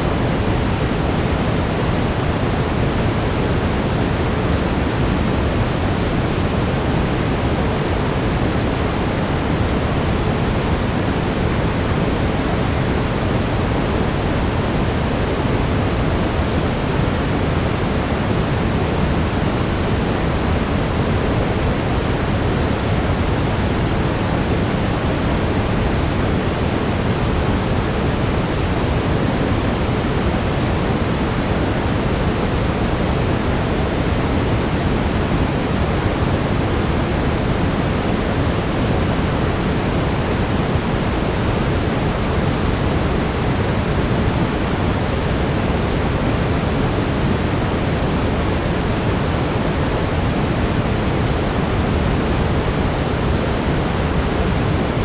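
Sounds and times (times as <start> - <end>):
deep brown noise hiss: 0.0 - 55.0.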